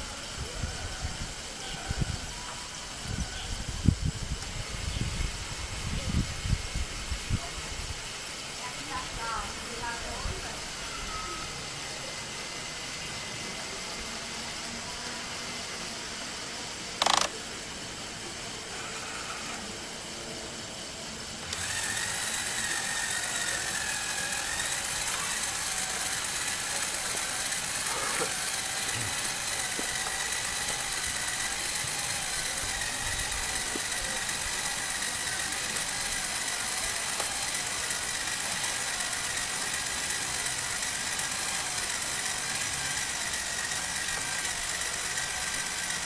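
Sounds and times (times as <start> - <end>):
toy motors and gears whining: 0.0 - 46.0.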